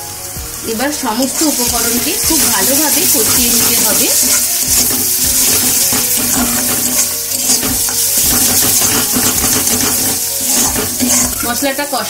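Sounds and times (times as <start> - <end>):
paste sizzling in hot oil: 0.0 - 12.0
spatula scraping a wok: 1.4 - 11.6.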